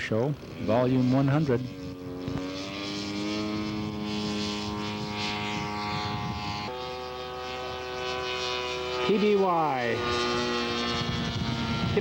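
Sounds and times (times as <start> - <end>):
model airplane engines running: 0.0 - 12.0.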